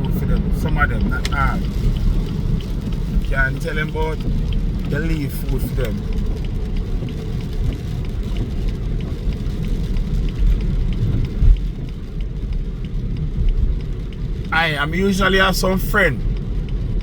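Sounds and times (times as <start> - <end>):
car driving rumble from inside: 0.0 - 17.0.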